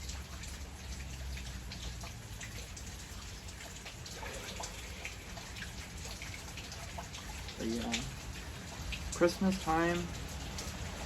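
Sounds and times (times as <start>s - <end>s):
rain drops tapping: 0.0s - 11.0s.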